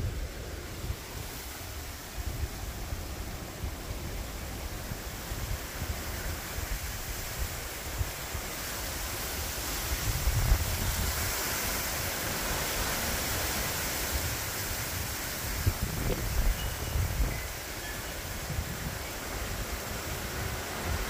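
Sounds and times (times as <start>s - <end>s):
storm wind rushing through trees: 0.0s - 21.0s
wind buffeting on microphone: 0.0s - 21.0s.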